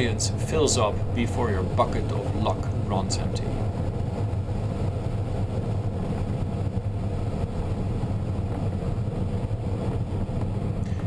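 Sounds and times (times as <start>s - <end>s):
airflow rushing around canopy: 0.0s - 11.0s.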